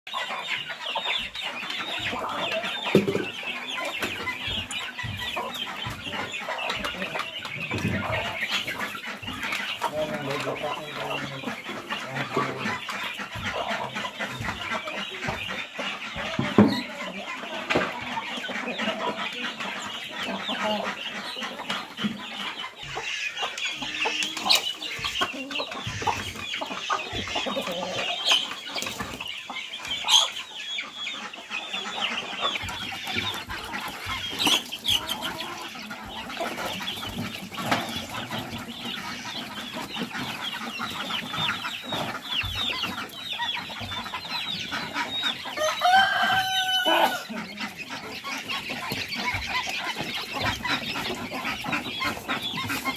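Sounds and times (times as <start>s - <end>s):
chickens clucking: 0.0s - 52.9s
drawn-out chicken call: 0.1s - 52.9s.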